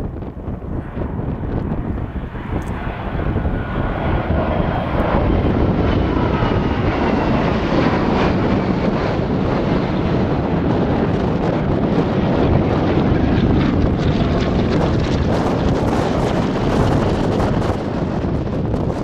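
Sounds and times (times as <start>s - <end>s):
propeller plane engines droning: 0.0s - 19.0s.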